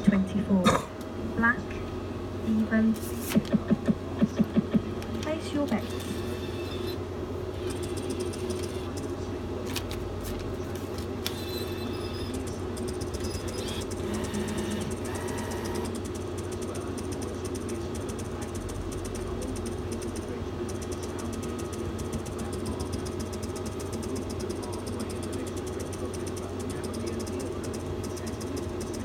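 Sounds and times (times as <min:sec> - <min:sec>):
electrical machine hum: 0:00.0 - 0:29.0.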